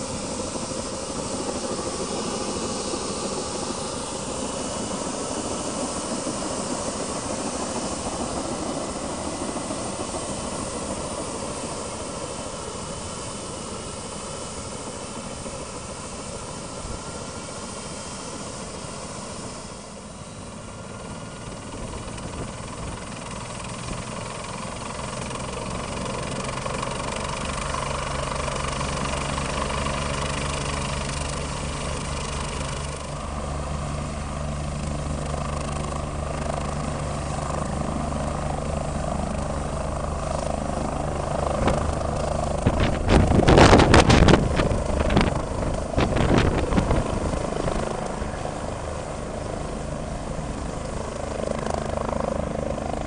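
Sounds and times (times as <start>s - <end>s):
helicopter turbine hiss and whine: 0.0s - 53.0s.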